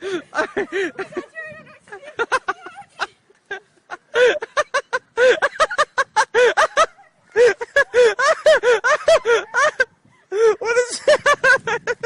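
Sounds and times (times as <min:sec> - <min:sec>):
person laughing hard: 0:00.0 - 0:01.3, 0:01.9 - 0:12.0.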